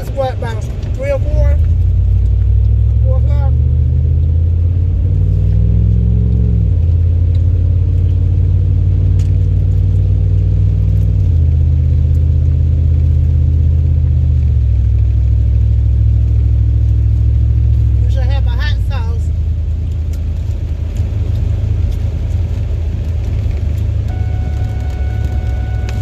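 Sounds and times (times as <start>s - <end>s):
car engine and road drone: 0.0s - 26.0s.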